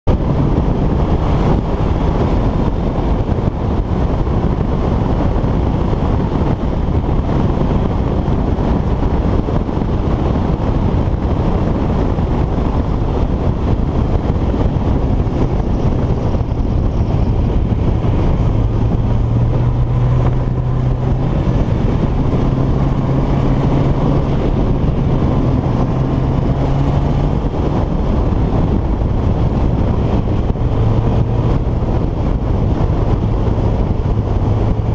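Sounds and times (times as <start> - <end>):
vehicle engine running: 0.0 - 34.9
wind noise on microphone: 0.0 - 34.9.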